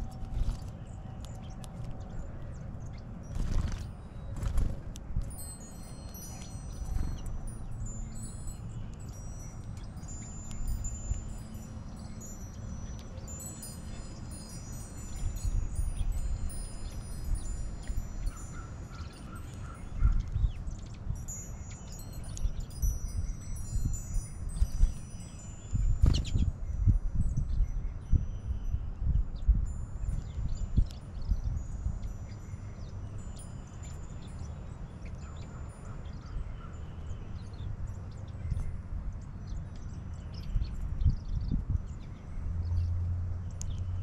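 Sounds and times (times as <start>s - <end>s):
metal wind chimes ringing: 5.0s - 44.0s.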